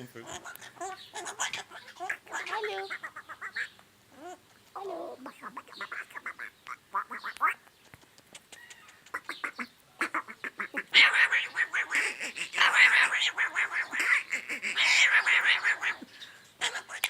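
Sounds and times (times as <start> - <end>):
parrot squawking: 0.0 - 7.6, 8.4 - 17.0.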